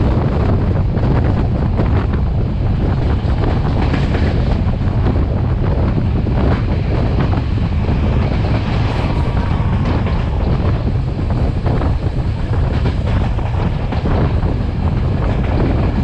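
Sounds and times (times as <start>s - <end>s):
train wheels clattering on rails: 0.0s - 16.0s
wind buffeting microphone: 0.0s - 16.0s.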